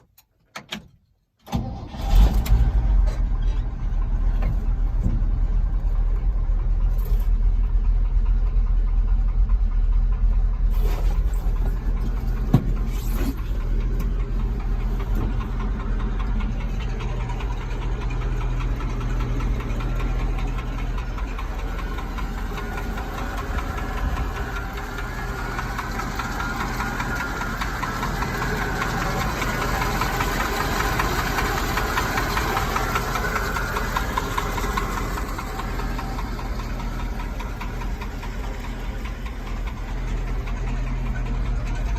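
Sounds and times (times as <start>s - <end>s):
truck engine cranking: 0.0s - 41.9s
truck engine idling: 1.6s - 41.9s.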